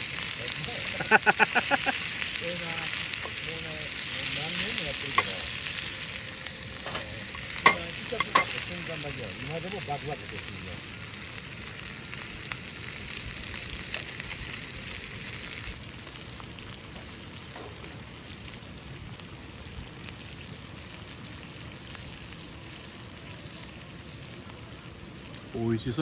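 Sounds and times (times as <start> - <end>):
food sizzling in hot fat: 0.0 - 26.0.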